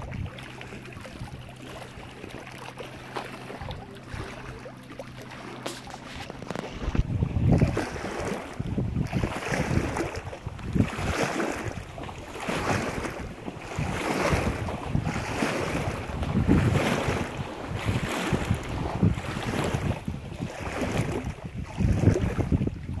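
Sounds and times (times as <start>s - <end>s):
waves lapping against rocks: 0.0s - 23.0s
wind rumbling on microphone: 0.0s - 23.0s.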